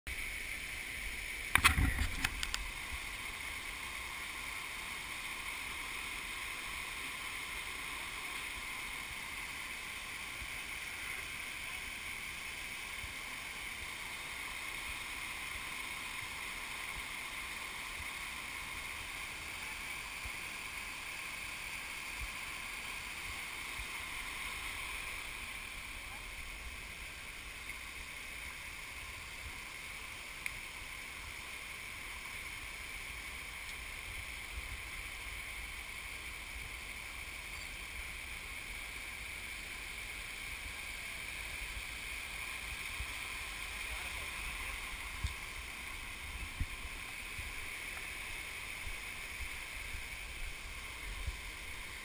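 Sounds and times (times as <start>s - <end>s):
water rushing over rocks: 0.1s - 52.0s.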